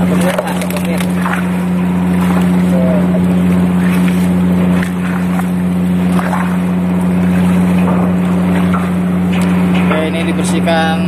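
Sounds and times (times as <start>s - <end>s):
low hum of ship machinery: 0.0s - 11.0s
splashing water scrubbing: 0.0s - 11.0s.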